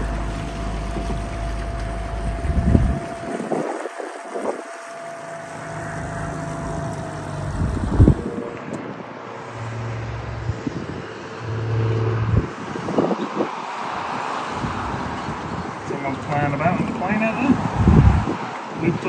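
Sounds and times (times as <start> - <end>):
aircraft engine hum overhead: 0.0 - 18.8
motorboat engine drone: 0.0 - 18.9
wind buffeting microphone: 0.0 - 19.0.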